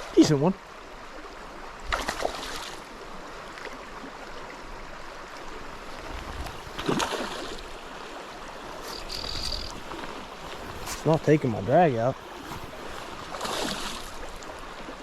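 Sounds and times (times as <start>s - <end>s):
stream water running: 0.0s - 15.0s
water disturbances: 0.0s - 15.0s.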